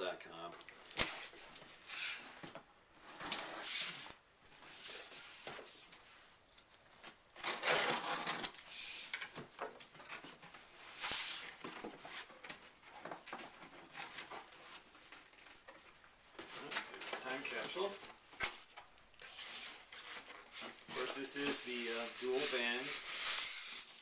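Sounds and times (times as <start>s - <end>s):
cardboard and plastic rustling: 0.6s - 24.0s.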